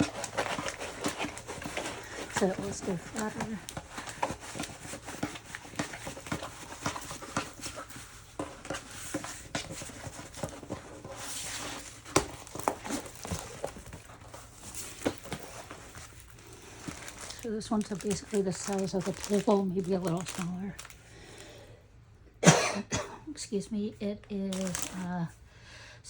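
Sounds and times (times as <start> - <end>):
canvas rustling and tapping: 0.0 - 21.0, 24.5 - 25.3.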